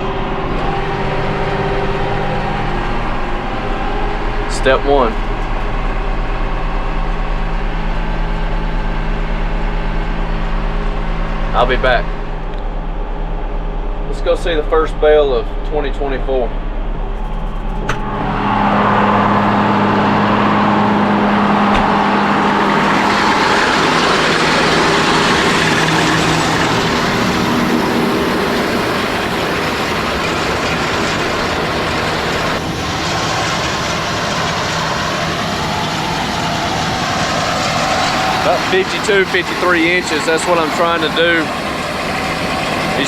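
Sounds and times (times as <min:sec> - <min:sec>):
tractor engine hum: 0:00.0 - 0:43.0.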